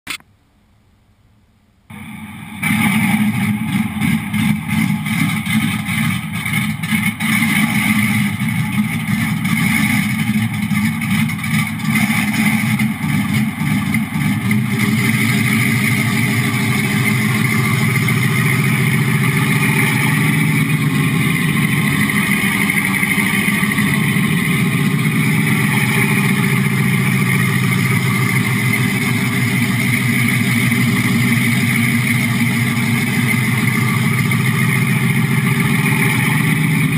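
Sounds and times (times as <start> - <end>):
tank engine through speaker: 1.9 - 36.9.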